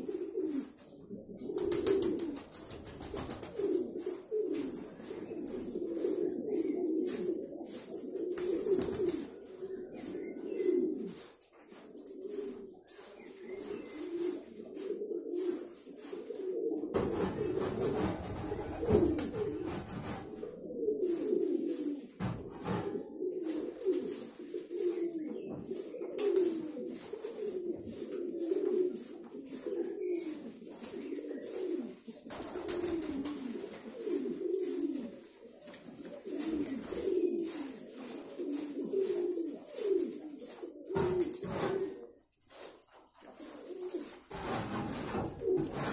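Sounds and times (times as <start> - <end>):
pigeons cooing: 0.0 - 45.9.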